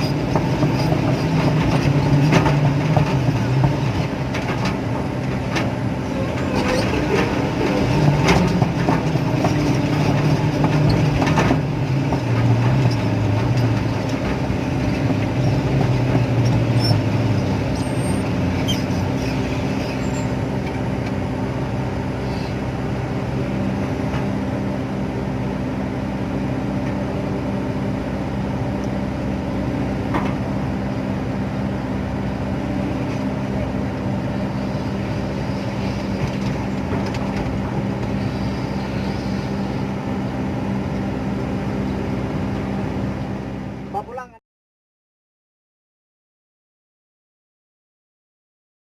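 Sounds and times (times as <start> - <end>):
excavator diesel engine running: 0.0 - 44.4.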